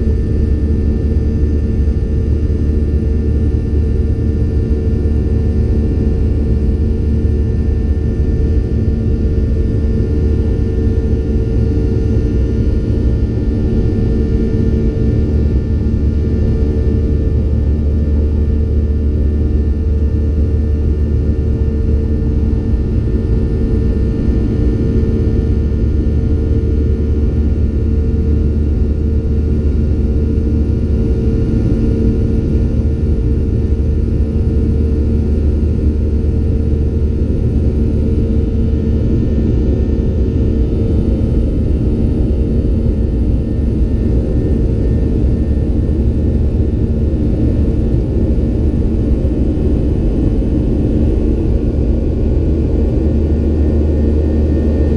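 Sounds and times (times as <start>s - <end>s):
airplane cabin drone: 0.0s - 54.9s
constant humming tones: 0.0s - 54.9s.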